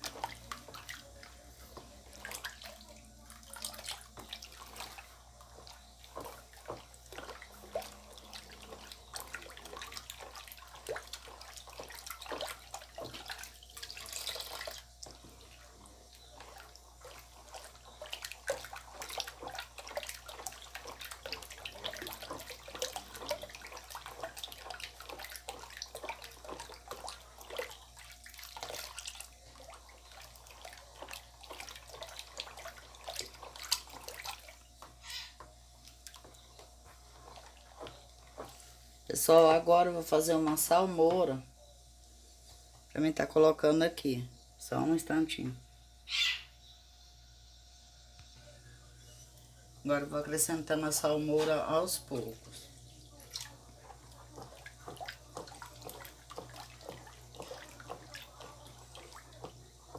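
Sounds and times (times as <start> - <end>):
liquid sloshing and splashing: 0.0 - 41.4, 50.4 - 59.9.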